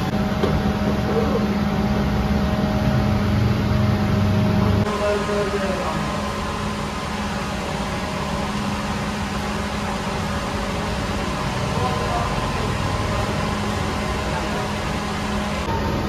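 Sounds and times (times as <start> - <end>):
bakery equipment humming: 0.0 - 16.0.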